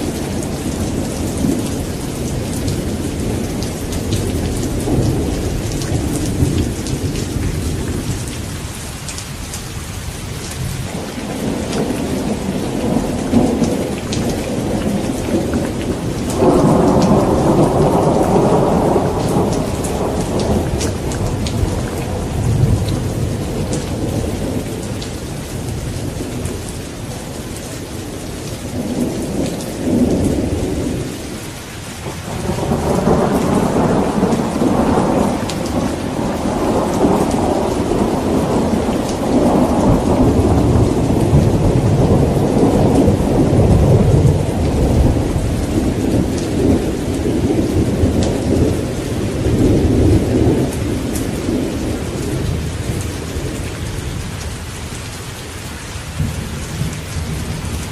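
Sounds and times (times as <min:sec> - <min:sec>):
thunder rumbling: 0:00.0 - 0:08.8, 0:10.5 - 0:31.4, 0:32.0 - 0:54.4
steady rain falling: 0:00.0 - 0:57.9.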